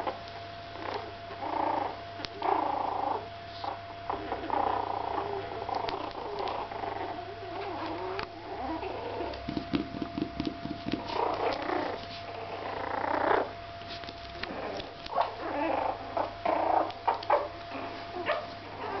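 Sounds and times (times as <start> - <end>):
small dogs growling: 0.0 - 9.7, 11.0 - 13.6, 14.3 - 19.0.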